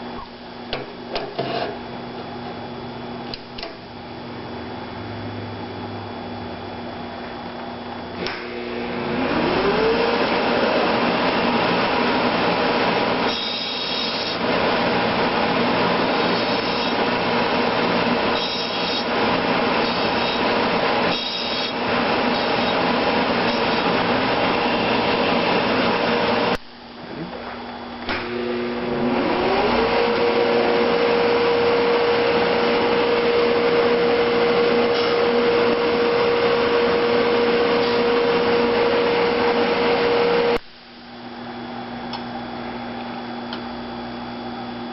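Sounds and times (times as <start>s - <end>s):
grinding-wheel motor whine: 0.0s - 40.6s, 41.2s - 44.9s.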